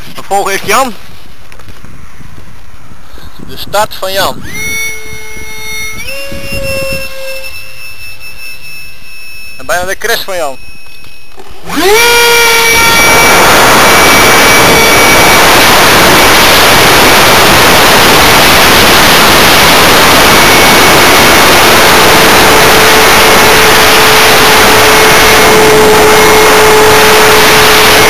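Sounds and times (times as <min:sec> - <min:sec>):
wind noise: 0:00.0 - 0:28.0
model plane motor whine: 0:04.4 - 0:28.0.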